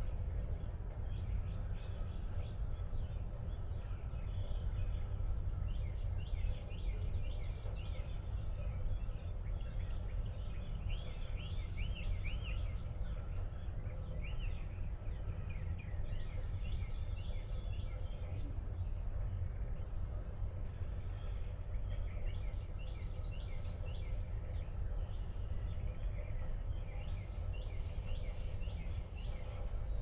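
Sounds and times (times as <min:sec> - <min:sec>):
low background rumble: 0:00.0 - 0:30.0
songbirds chirping and singing: 0:00.0 - 0:30.0.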